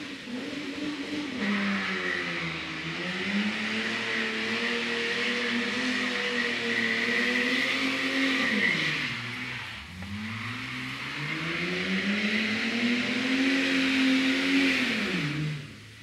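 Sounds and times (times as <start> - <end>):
car engine revving high: 0.0 - 16.0.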